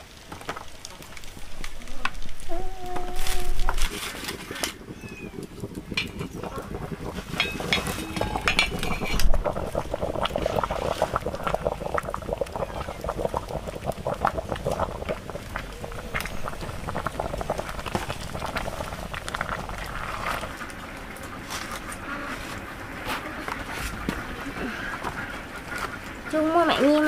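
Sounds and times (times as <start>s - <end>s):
water boiling in a pot: 0.0s - 27.0s.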